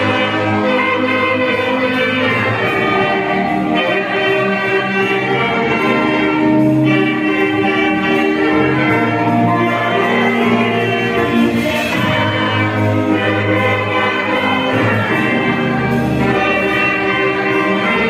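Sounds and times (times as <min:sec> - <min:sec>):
wind band playing held chords: 0:00.0 - 0:18.0.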